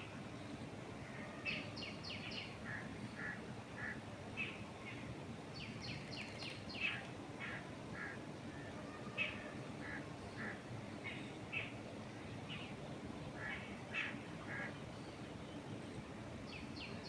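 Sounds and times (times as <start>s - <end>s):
wild birds chirping: 0.4s - 17.0s.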